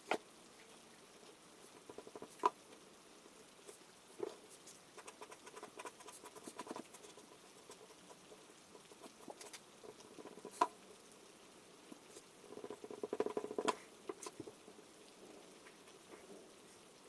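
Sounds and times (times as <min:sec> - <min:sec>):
faint rain drops pattering: 0:00.0 - 0:17.0.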